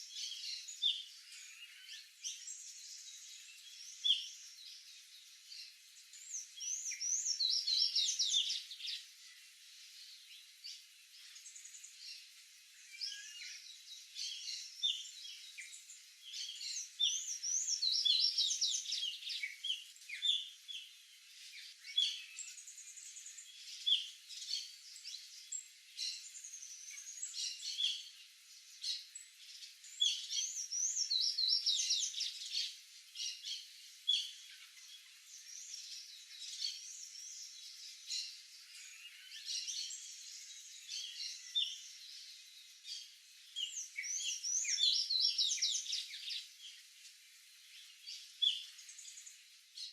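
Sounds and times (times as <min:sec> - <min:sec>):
songbirds singing: 0:00.0 - 0:49.9.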